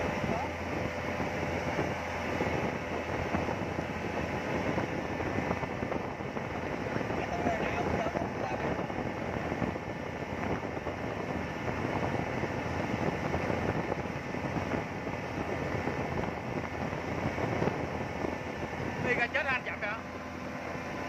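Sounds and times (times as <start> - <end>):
motorboat engine: 0.0 - 21.0
water against hull: 0.0 - 21.0
wind on microphone: 0.0 - 21.0.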